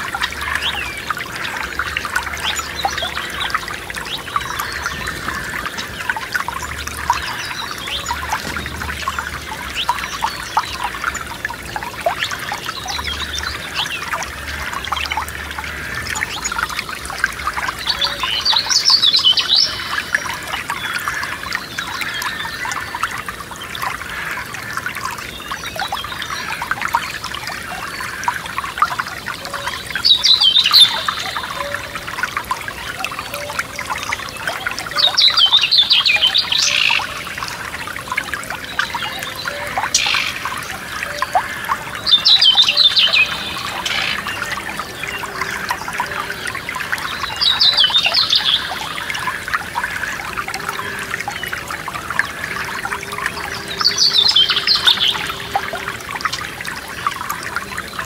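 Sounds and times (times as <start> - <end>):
songbird singing: 0.0 - 23.9, 29.0 - 56.5
stream trickling and splashing: 0.0 - 58.0.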